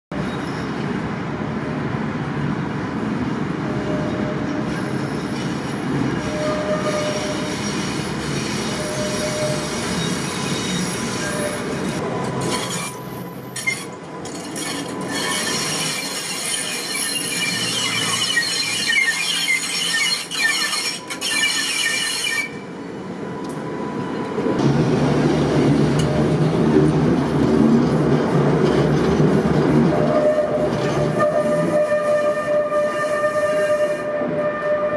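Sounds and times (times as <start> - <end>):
tram wheels squealing: 0.1 - 1.2, 3.0 - 34.9
tram low rumble: 0.1 - 34.9.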